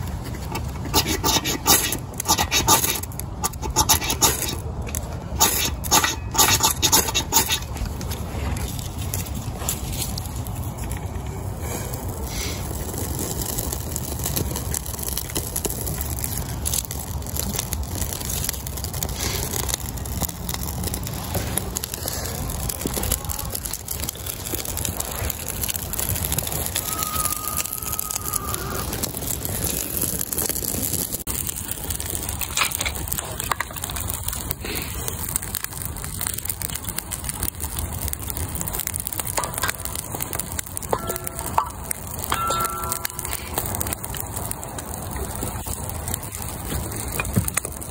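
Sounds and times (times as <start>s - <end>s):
small fire crackling: 0.0s - 47.9s.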